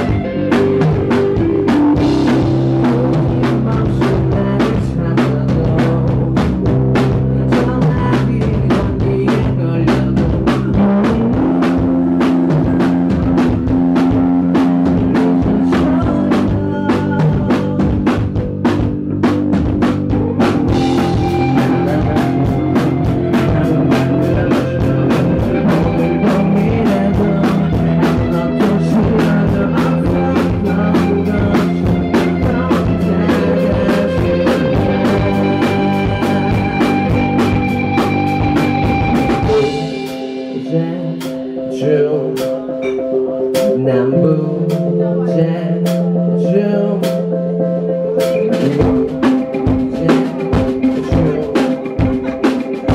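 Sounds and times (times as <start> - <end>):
drum kit: 0.0 - 52.9
live rock band playing: 0.0 - 52.9.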